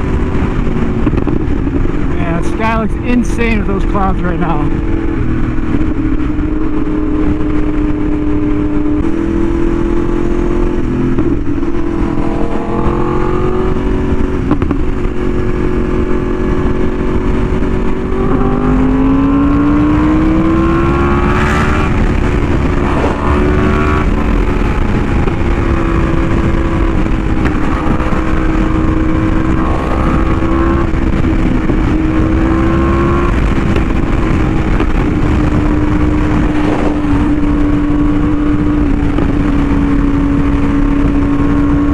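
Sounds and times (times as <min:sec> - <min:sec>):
motorcycle engine revving: 0:00.0 - 0:41.9
wind rumble on microphone: 0:00.0 - 0:41.9.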